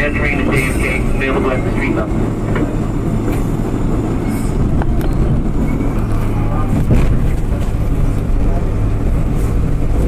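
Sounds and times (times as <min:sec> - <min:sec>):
subway train rumble: 0:00.0 - 0:10.0.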